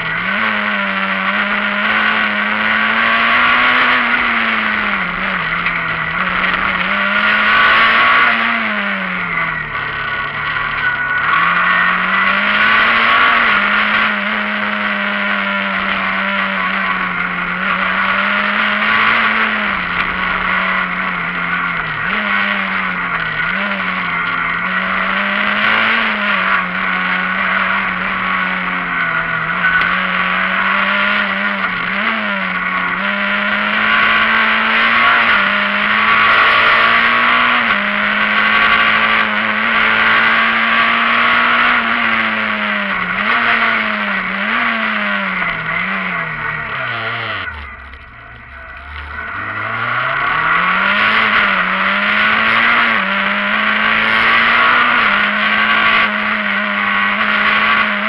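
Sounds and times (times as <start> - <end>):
rally car engine revving: 0.0 - 58.0
tyre and road noise: 0.0 - 58.0.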